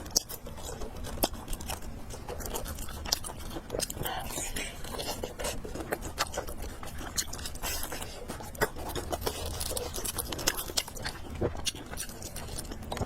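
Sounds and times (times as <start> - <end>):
chewing mouth clicks: 0.0 - 13.0.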